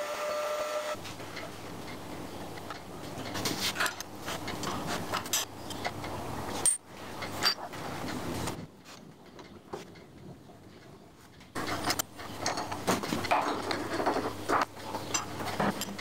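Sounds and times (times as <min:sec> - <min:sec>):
faint workshop noise: 0:00.0 - 0:16.0.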